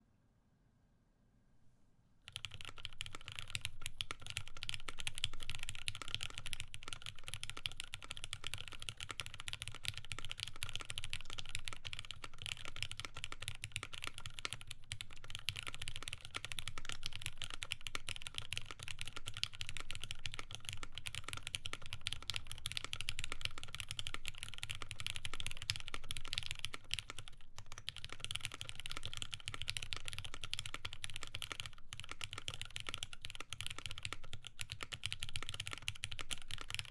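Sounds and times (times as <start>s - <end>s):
fast typing on mechanical keyboard: 2.3s - 36.9s.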